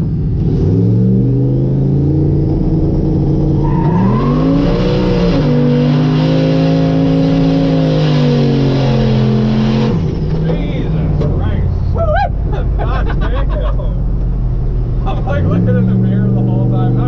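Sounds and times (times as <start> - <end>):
pickup truck engine revving: 0.0 - 17.0
tires spinning: 0.0 - 17.0.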